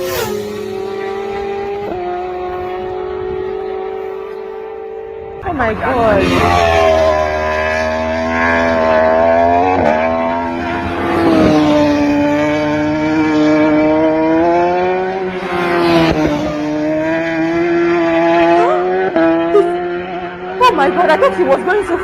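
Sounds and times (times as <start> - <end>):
racing motorcycle engine revving: 0.0 - 22.0.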